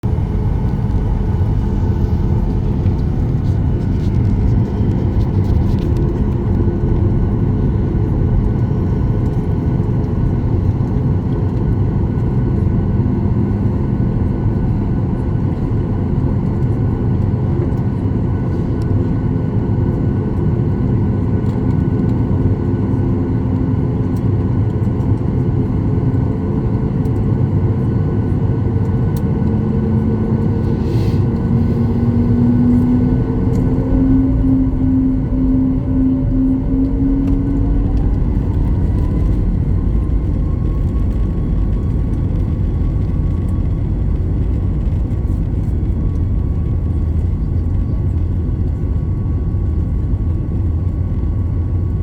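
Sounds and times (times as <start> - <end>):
jet airliner cabin rumble: 0.0 - 52.0.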